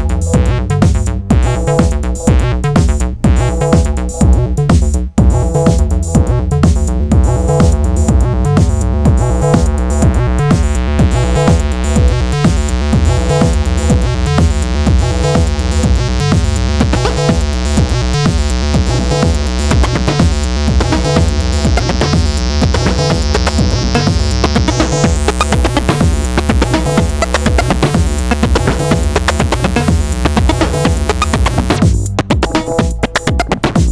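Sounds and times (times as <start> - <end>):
acid synth line: 0.0 - 33.9
electronic drum beat: 0.0 - 33.9.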